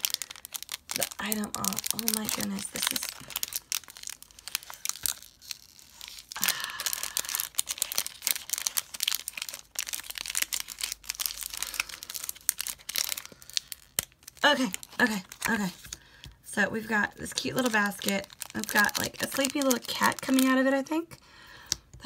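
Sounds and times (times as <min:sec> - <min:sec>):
paper packaging tearing and crinkling: 0:00.0 - 0:16.0, 0:17.4 - 0:20.8.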